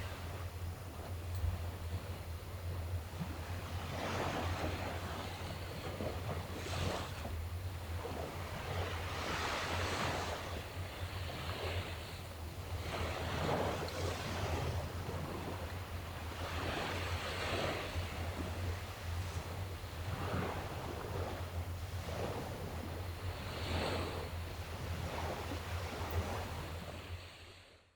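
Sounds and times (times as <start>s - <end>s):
steady low rumble: 0.0s - 27.3s
sea waves washing onto shore: 0.0s - 27.6s.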